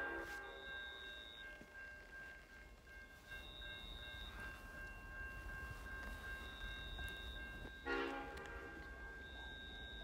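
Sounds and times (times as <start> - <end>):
distant diesel train rumble: 0.0 - 10.0.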